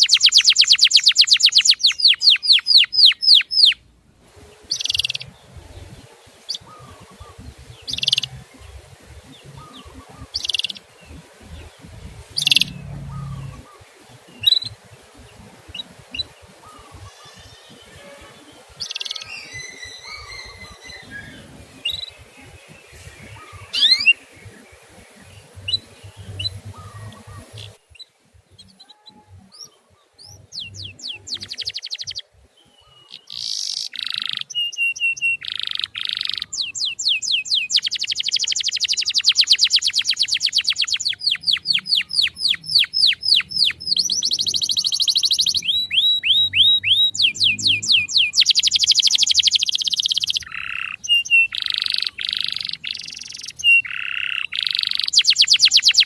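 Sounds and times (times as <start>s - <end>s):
canary singing and chirping: 0.0s - 56.0s.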